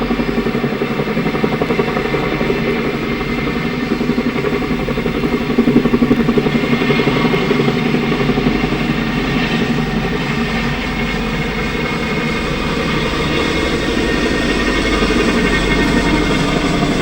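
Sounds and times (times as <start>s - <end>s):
helicopter rotors throbbing: 0.0s - 17.0s
helicopter turbine noise: 0.0s - 17.0s.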